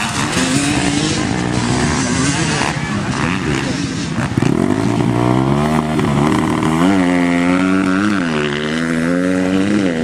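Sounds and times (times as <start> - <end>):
motocross engine revving: 0.0 - 10.0.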